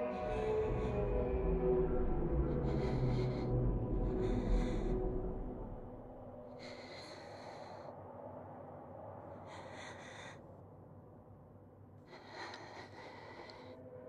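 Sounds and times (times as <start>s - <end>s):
woman breathing faintly: 0.0s - 14.0s.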